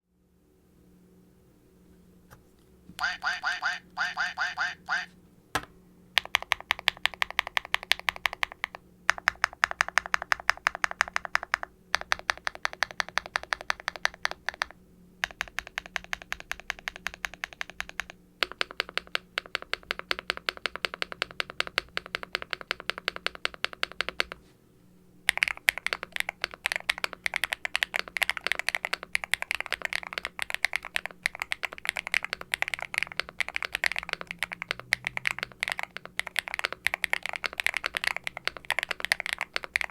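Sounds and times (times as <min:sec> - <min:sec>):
typing on mechanical keyboard: 0:06.2 - 0:24.4, 0:25.3 - 0:39.9.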